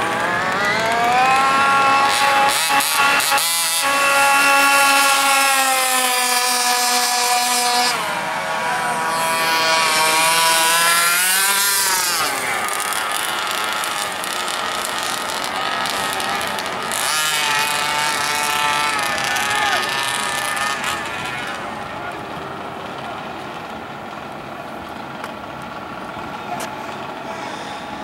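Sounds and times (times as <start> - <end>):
rc car two-stroke engine: 0.0 - 28.0.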